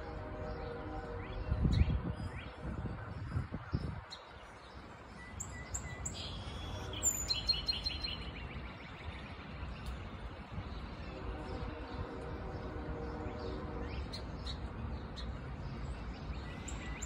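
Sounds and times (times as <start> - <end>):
distant train rumble: 0.0 - 17.0.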